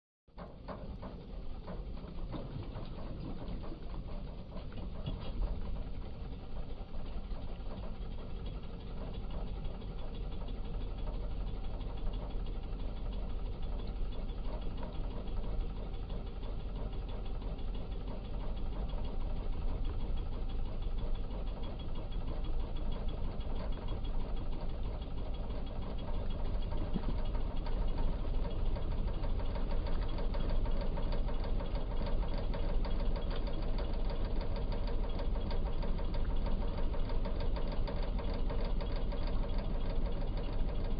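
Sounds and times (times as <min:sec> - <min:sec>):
outboard motor running: 0:00.3 - 0:40.9.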